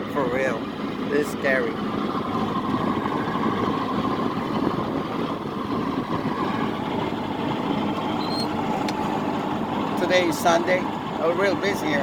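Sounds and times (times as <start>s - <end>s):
jet ski engine drone: 0.0s - 12.0s.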